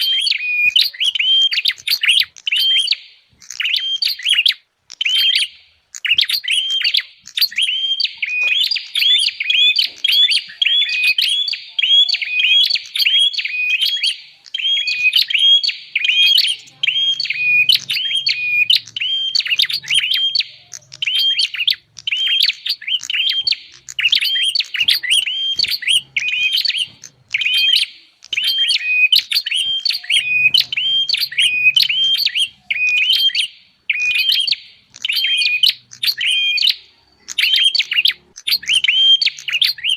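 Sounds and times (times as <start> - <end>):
bird sharp chirps: 0.0 - 39.9.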